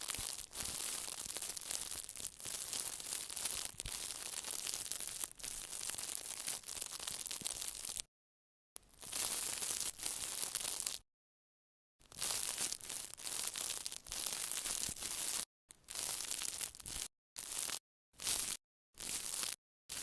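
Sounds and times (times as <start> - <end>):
small crackles and clicks: 0.0 - 8.1, 8.8 - 11.0, 12.0 - 20.0.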